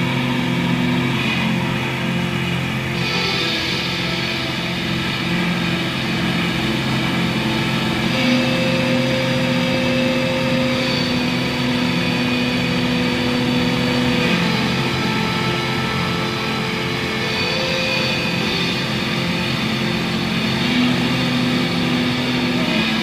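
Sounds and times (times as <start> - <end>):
droning synthesizer music: 0.0 - 23.0
held low synth note: 0.0 - 23.0.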